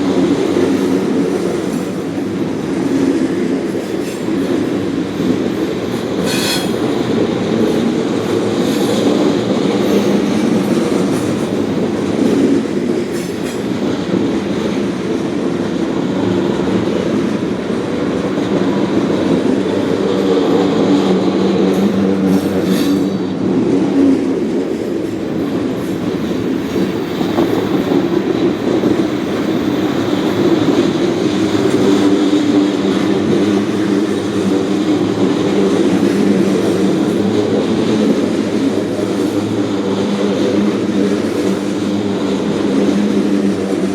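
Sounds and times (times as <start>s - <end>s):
clickety-clack over rail joints: 0.0s - 43.9s
train wheels rumbling on rail: 0.0s - 43.9s.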